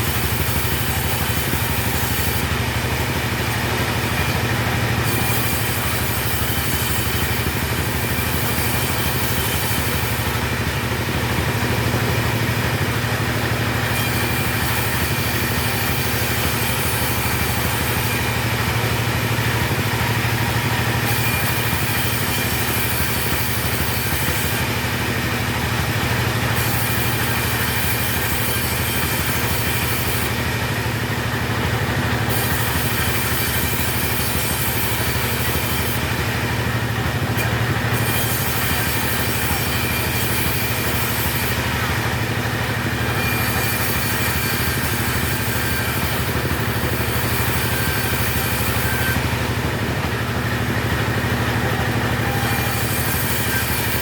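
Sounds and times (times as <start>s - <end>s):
chainsaw sawing timber: 0.0s - 54.0s.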